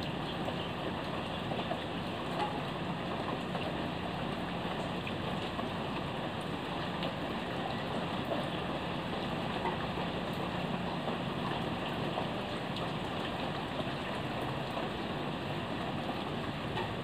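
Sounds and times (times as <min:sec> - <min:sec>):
raindrops ticking on surfaces: 0:00.0 - 0:17.0.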